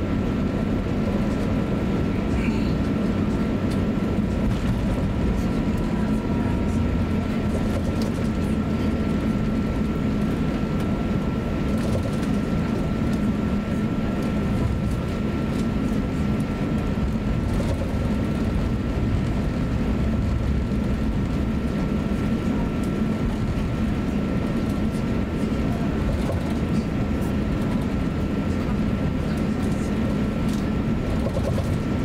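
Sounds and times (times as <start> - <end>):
airplane cabin rumble: 0.0 - 32.0
steady high whine: 0.0 - 32.0.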